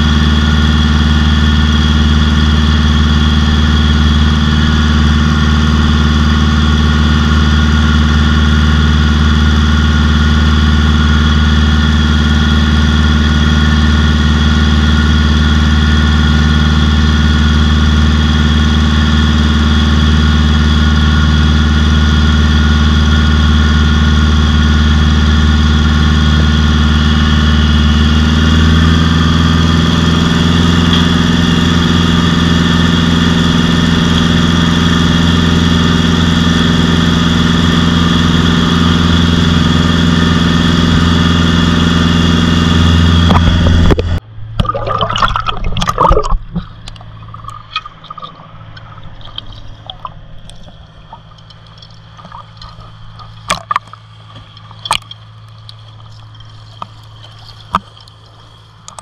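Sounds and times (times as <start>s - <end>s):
engine-driven water pump running: 0.0s - 59.0s.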